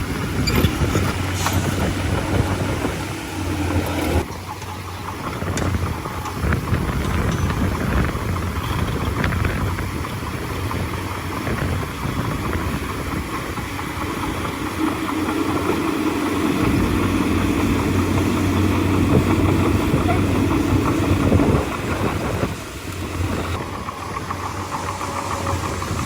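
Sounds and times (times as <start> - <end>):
bulldozer diesel engine droning: 0.0 - 26.0.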